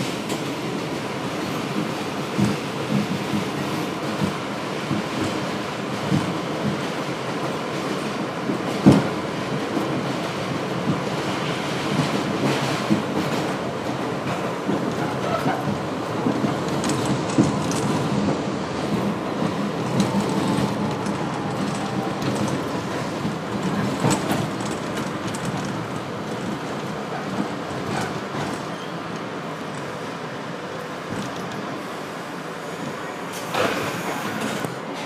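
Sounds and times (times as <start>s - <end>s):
rail joint clicks: 0.0s - 31.8s, 33.3s - 35.0s
wheels rumbling on rail: 0.0s - 35.0s.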